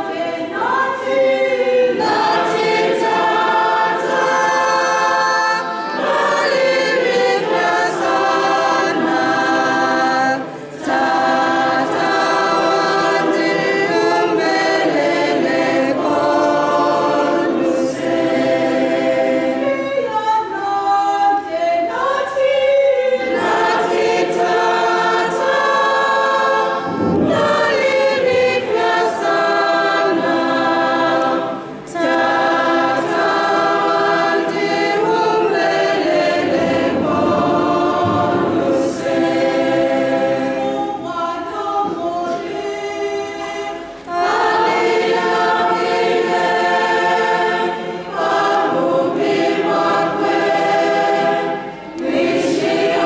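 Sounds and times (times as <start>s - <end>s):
choir and congregation chanting: 0.0s - 53.0s.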